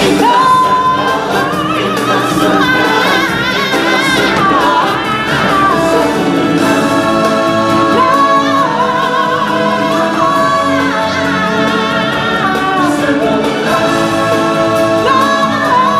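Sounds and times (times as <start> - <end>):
musical accompaniment: 0.0 - 15.9
singers holding long notes: 0.0 - 15.9.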